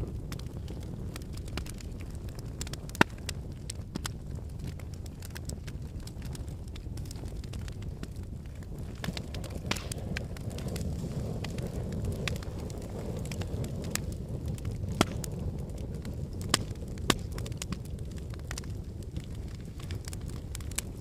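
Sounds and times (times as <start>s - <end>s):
fire crackling: 0.0s - 21.0s
fire flames rumbling: 0.0s - 21.0s
loud fire pops: 0.0s - 21.0s.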